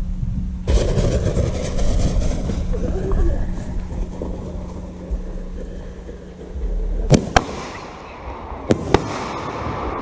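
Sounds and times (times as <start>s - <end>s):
fireworks sharp bangs: 0.7s - 10.0s.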